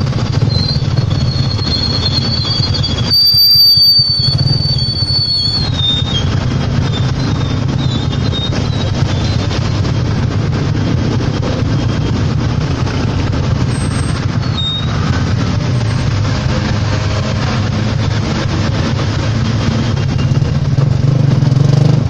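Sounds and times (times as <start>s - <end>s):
motorcycle engine running: 0.0s - 22.0s
noisy rush: 0.0s - 22.0s.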